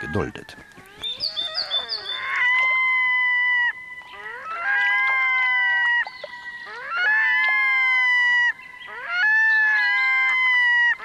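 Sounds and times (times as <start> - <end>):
loons calling: 0.0 - 11.0.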